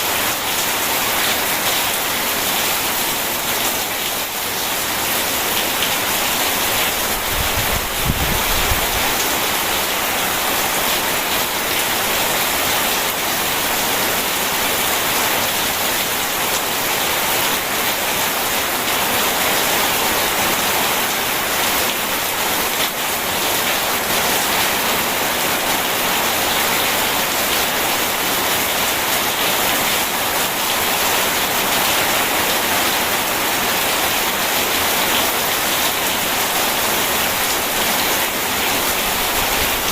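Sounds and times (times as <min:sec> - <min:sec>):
dense rain: 0:00.0 - 0:39.9.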